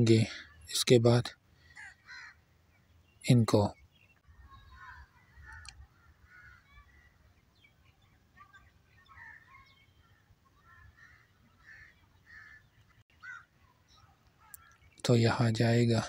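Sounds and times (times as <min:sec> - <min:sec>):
faint bird calls: 0:01.4 - 0:16.0.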